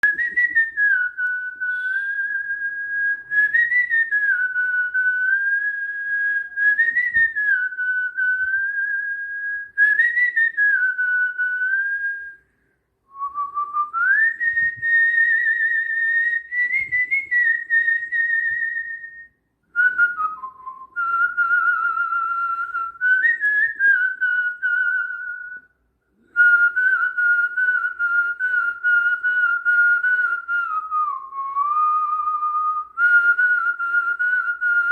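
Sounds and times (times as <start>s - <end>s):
person whistling a slow tune: 0.0s - 34.9s.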